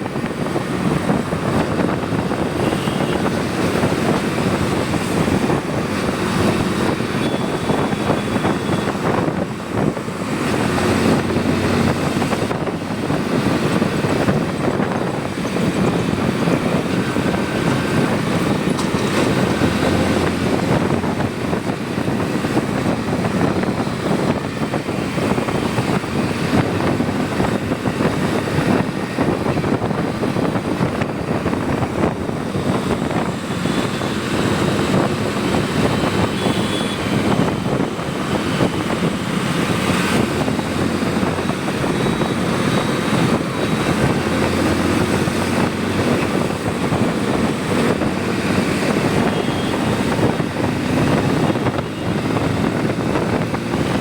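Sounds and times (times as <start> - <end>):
motorcycle engine drone: 0.0 - 54.0
road and wind noise: 0.0 - 54.0.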